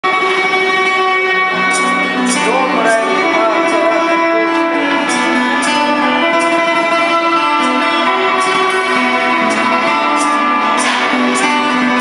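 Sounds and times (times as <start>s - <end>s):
plucked string instrument: 0.0s - 12.0s
sustained string drone: 0.1s - 12.0s.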